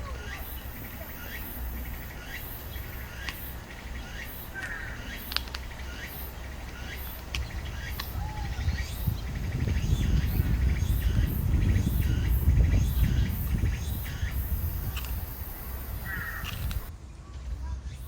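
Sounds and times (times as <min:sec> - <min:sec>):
bird chirps: 0:00.0 - 0:16.9
cicada pulsing call: 0:00.0 - 0:16.9
cricket ticking call: 0:00.0 - 0:16.9.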